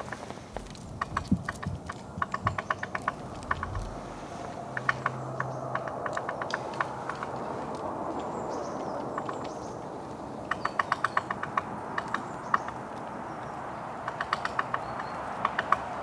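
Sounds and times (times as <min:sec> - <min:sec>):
woodpecker tapping on wood: 0:00.0 - 0:04.0, 0:04.7 - 0:09.8, 0:10.4 - 0:16.0.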